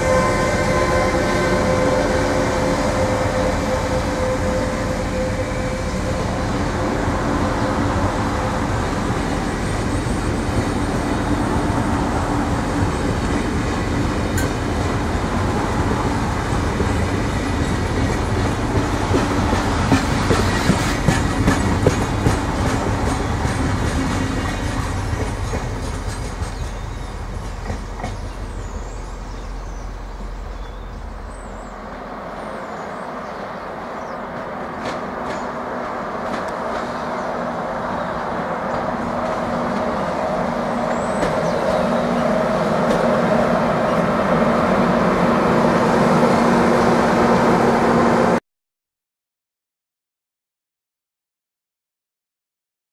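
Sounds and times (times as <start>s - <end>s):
train deep rumble: 0.0s - 48.4s
train humming: 0.0s - 48.4s.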